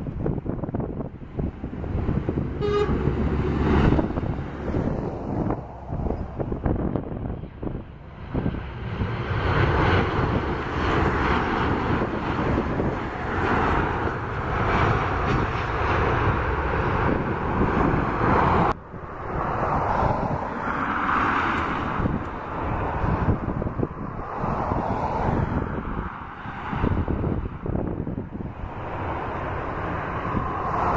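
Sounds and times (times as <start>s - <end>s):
jet airliner landing: 0.0s - 30.9s
wind on microphone: 0.0s - 30.9s.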